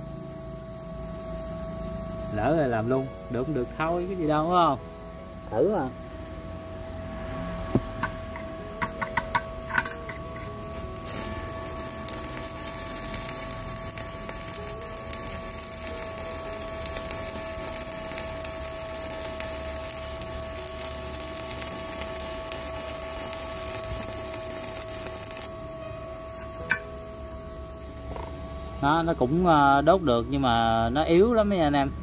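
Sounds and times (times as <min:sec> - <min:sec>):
welding arc crackling sizzle: 0:01.4 - 0:04.8, 0:05.5 - 0:32.0.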